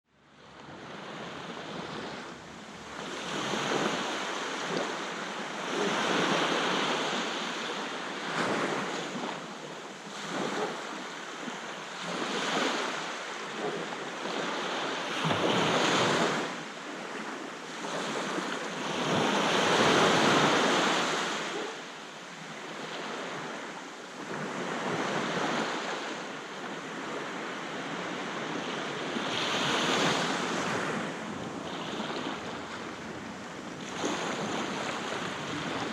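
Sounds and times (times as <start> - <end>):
sea waves breaking on beach: 0.7 - 35.9.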